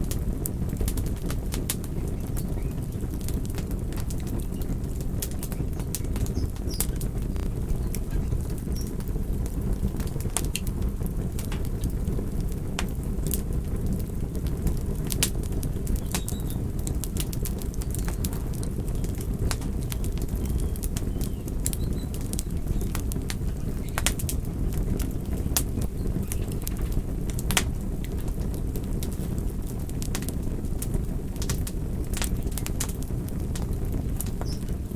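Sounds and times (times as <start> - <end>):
campfire crackling: 0.0 - 34.9.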